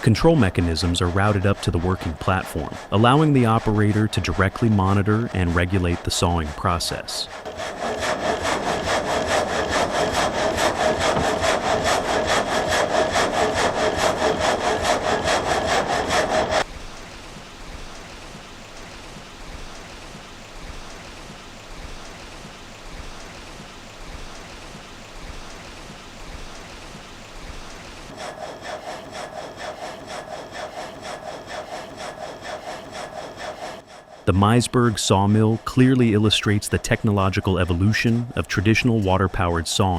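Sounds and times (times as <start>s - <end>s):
frame saw cutting log: 0.0s - 16.7s, 18.0s - 39.9s.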